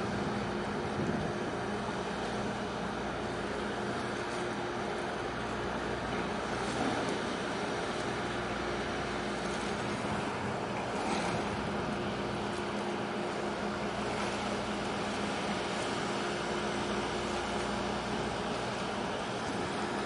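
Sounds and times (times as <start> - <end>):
wind and water hiss: 0.0 - 20.0.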